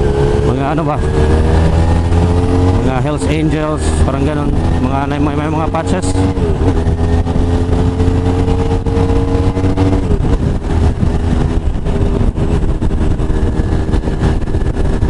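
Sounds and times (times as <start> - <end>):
motorcycle engine cruising: 0.0 - 15.0
wind rush: 0.0 - 15.0.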